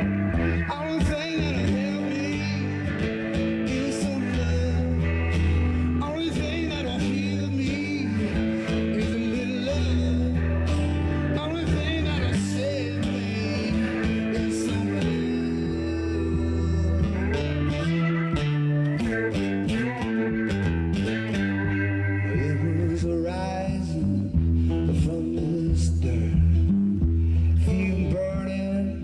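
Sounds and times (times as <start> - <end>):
electric guitar lead notes: 0.0 - 29.0
held bass notes: 0.0 - 29.0.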